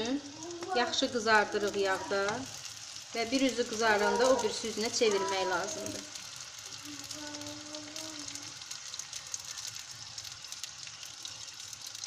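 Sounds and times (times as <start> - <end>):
pastries sizzling in hot oil: 0.0 - 12.0.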